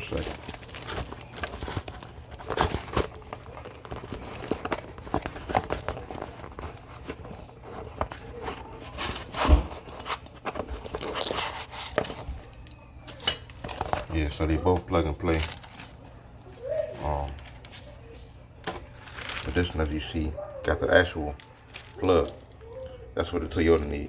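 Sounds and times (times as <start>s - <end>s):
rustling and crinkling packaging: 0.0s - 24.0s.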